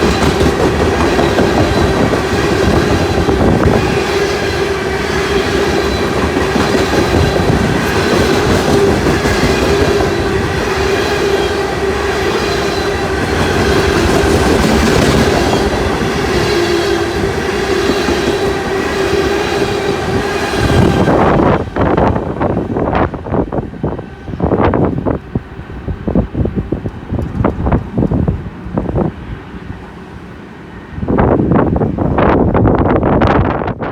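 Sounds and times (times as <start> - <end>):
train rumbling on rails: 0.0 - 33.9
wind noise on microphone: 0.0 - 33.9.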